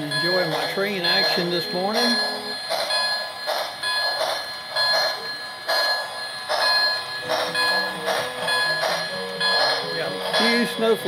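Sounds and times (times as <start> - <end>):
model train rhythmic rattle: 0.0 - 11.0
steady high whine: 0.0 - 11.0.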